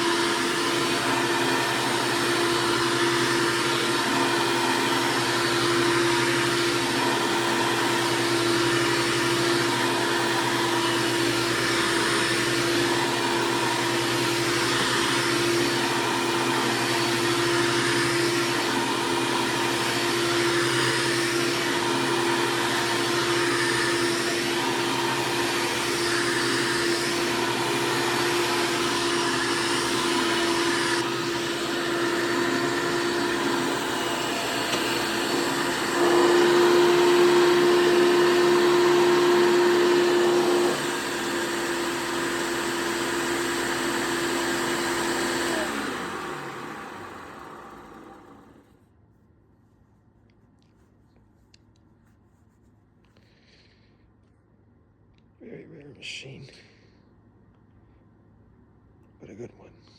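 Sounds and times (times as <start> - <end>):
vacuum cleaner running: 0.0 - 48.8.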